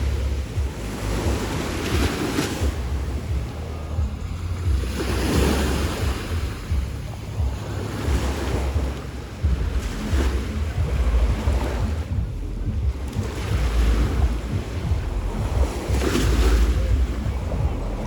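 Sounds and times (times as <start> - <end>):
sea waves breaking on shore: 0.0 - 18.0
wind buffeting microphone: 0.0 - 18.0.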